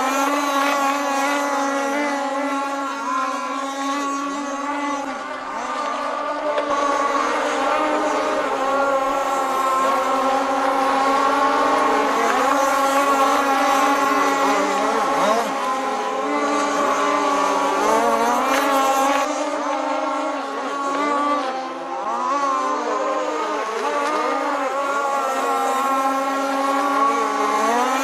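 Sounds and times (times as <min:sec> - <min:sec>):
model boat motors running: 0:00.0 - 0:28.0.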